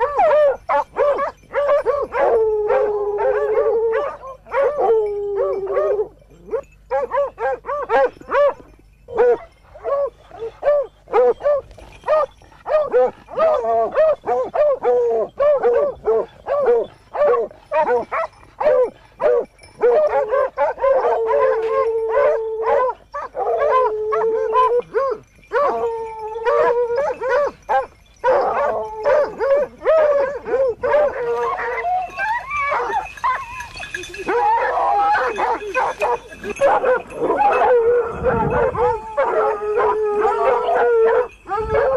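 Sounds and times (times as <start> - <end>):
hounds barking: 0.0 - 41.9
hounds baying: 0.0 - 41.9.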